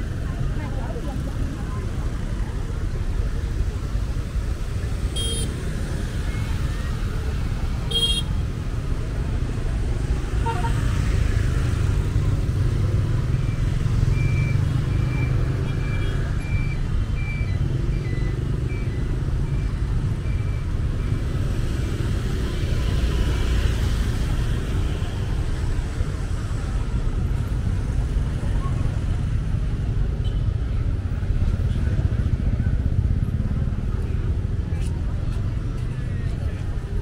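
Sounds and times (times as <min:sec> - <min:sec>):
car and motorbike engines: 0:00.0 - 0:37.0.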